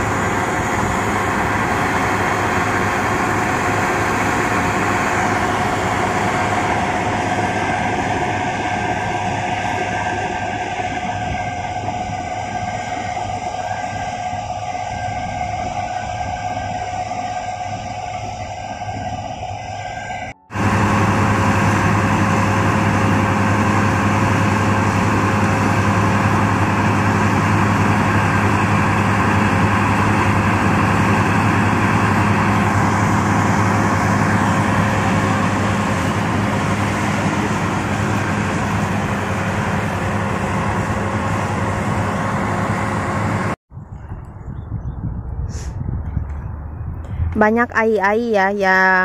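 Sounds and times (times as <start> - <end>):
combine harvester engine drone: 0.0 - 44.5.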